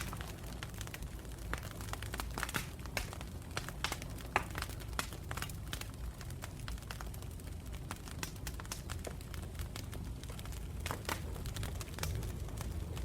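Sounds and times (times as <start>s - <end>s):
campfire crackling and popping: 0.0s - 13.0s
low rumble of flames: 0.0s - 13.0s.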